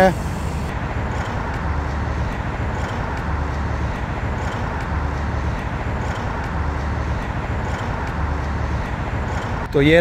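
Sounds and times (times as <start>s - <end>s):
road traffic: 0.0s - 10.0s.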